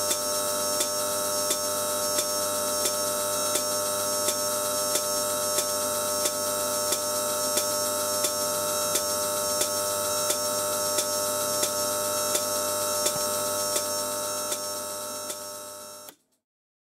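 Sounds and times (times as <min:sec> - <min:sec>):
electrical discharge buzzing whine: 0:00.0 - 0:16.1.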